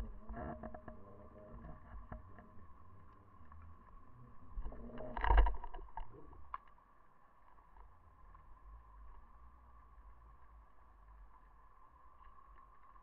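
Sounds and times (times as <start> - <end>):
steady underwater hum: 0.0 - 13.0.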